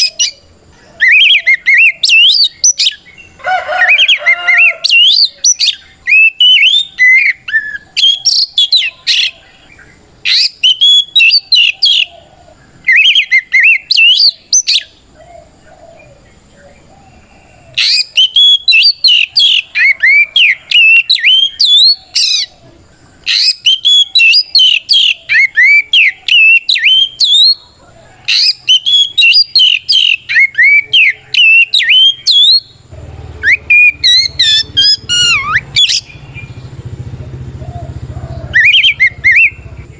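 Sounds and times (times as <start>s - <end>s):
bird singing whistles and chirps: 0.0s - 22.6s, 23.2s - 36.8s, 37.6s - 39.9s.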